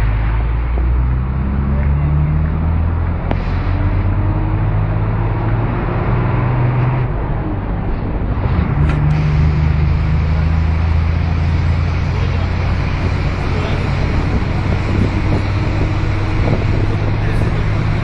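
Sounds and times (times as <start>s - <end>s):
heavy vehicle engine humming: 0.0s - 18.0s
road traffic: 0.0s - 18.0s.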